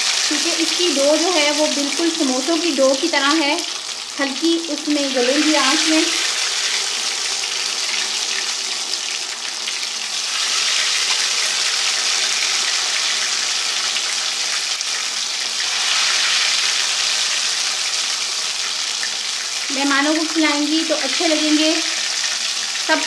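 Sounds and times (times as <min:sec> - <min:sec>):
dough deep-frying in hot oil: 0:00.0 - 0:23.0.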